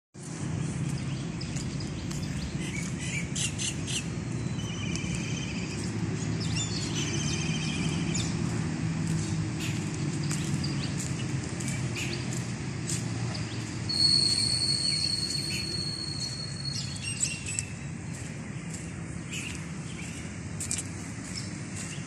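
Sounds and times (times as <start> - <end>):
birds chirping and trilling: 0.3 - 12.5, 13.3 - 22.0.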